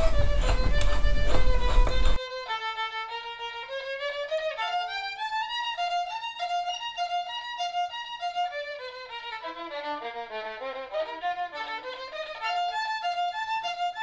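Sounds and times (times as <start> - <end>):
violin playing quick tune: 0.0 - 14.0.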